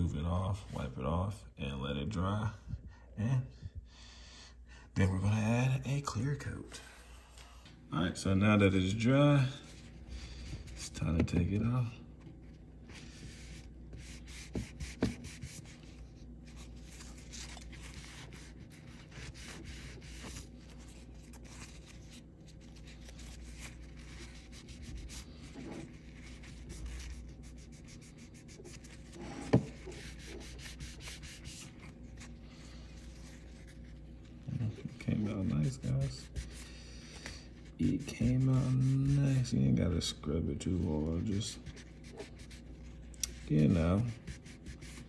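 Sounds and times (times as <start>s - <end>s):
paper towel rubbing on metal: 8.7s - 45.0s.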